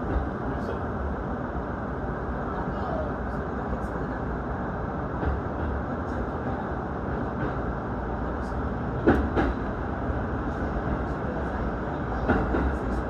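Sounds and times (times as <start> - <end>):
electric train rumble inside carriage: 0.0 - 13.0.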